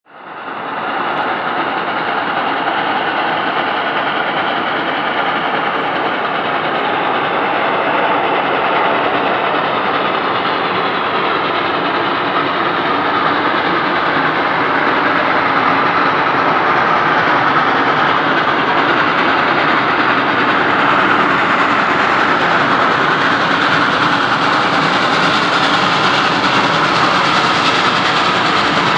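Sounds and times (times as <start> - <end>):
train rushing rumble: 0.1 - 28.9.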